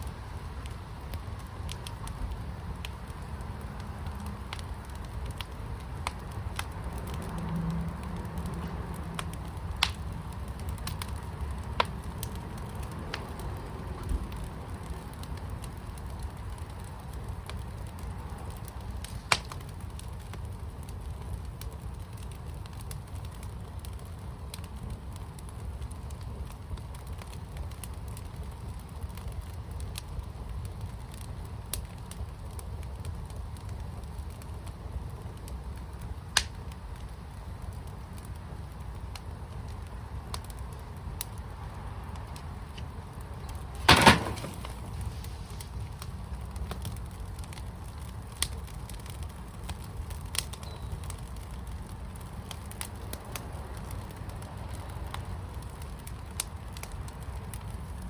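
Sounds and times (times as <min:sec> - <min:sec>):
fire pit burning: 0:00.0 - 0:58.0
fire popping and crackling: 0:00.0 - 0:58.0.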